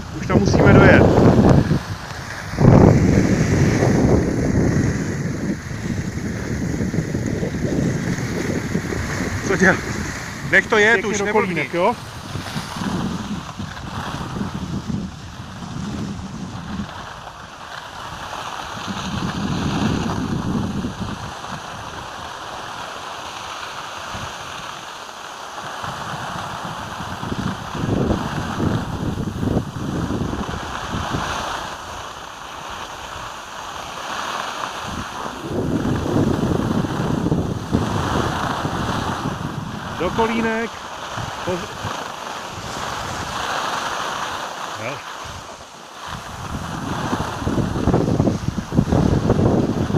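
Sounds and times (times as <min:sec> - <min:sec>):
skis sliding on snow: 0:00.0 - 0:49.9
wind rushing over microphone: 0:00.0 - 0:49.9.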